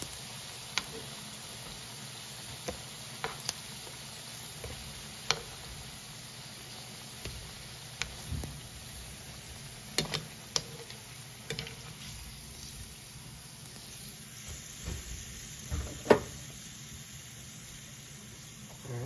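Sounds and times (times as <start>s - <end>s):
oil sizzling in frying pan: 0.0s - 19.0s.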